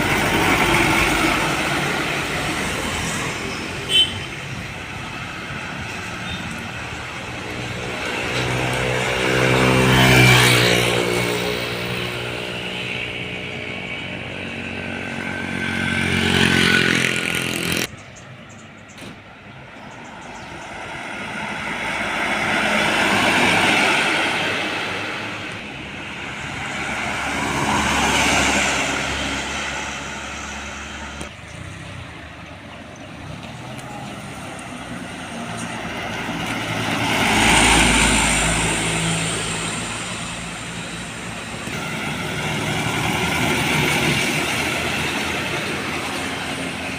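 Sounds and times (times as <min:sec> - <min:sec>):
deep diesel engine: 0:00.0 - 0:46.9
large road vehicles passing: 0:00.0 - 0:46.9.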